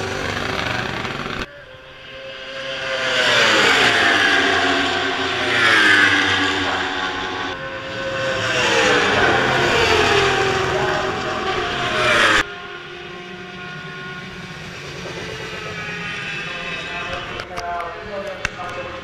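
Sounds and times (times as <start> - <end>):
superbike engines revving: 0.0 - 17.6
steady engine drone: 0.0 - 19.0.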